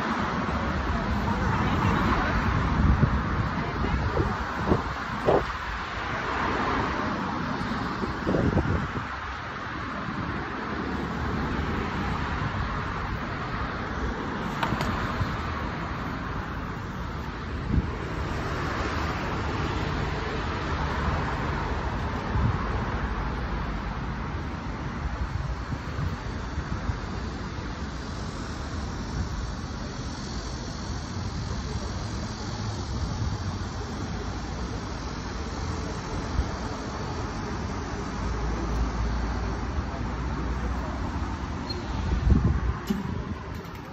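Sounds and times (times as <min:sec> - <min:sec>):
road traffic noise: 0:00.0 - 0:43.9.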